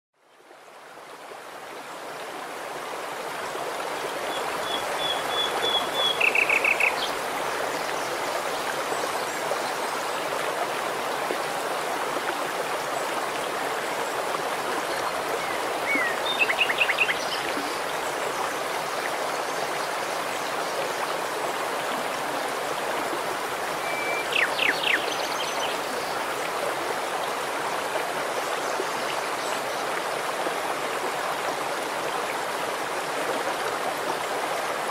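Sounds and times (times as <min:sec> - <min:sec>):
stream babbling over stones: 0:00.9 - 0:34.9.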